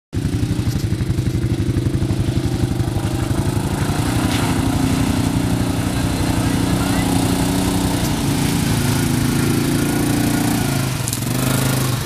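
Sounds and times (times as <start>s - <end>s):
quad bike engine running: 0.2s - 12.0s.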